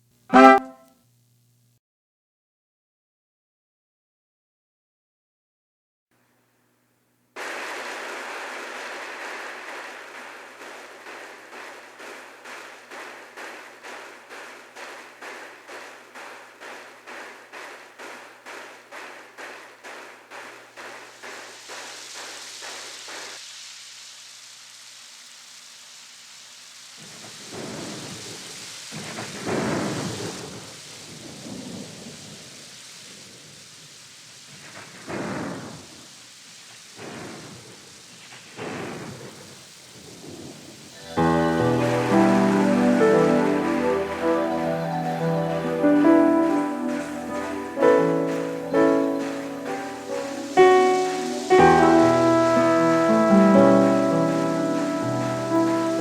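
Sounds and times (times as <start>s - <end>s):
falling rain: 7.2s - 56.0s.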